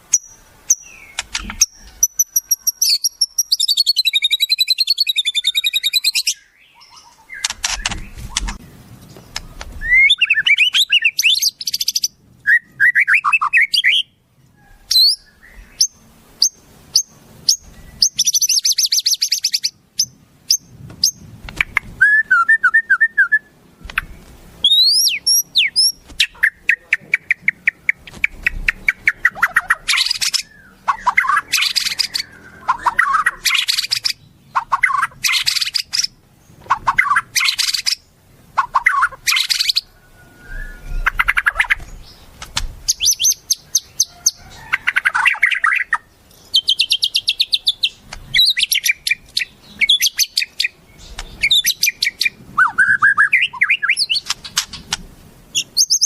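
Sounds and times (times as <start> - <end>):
songbirds singing and calling: 0.0 - 56.0.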